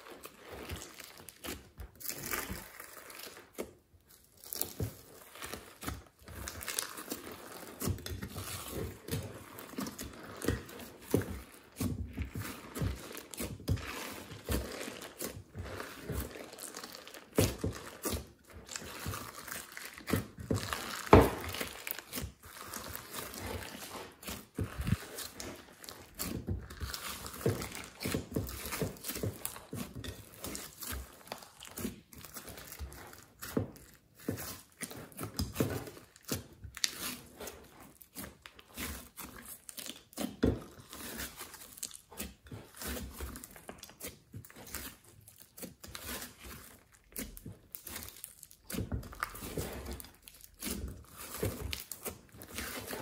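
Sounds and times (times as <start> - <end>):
slime squeezed with sticky crackles: 0.0 - 53.0.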